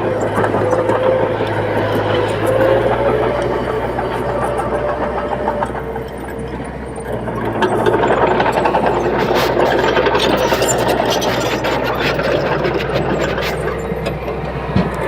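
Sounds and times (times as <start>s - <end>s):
bulldozer diesel engine: 0.0s - 15.0s
rattling and clanking: 0.0s - 15.0s.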